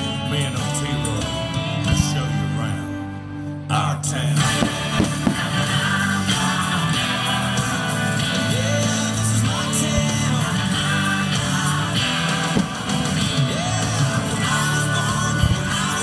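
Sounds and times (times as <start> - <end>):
rock song with guitar and singing: 0.0 - 16.0.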